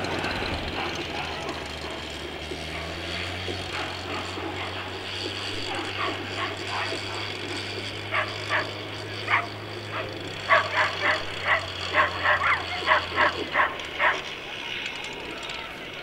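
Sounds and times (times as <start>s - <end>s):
dogs barking and yipping: 0.0s - 16.0s.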